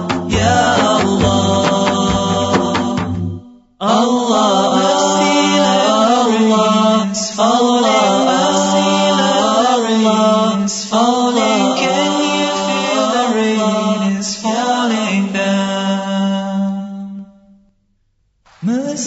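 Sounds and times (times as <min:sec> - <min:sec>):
layered voices chanting: 0:00.0 - 0:16.3
low vocal drone: 0:00.0 - 0:16.3.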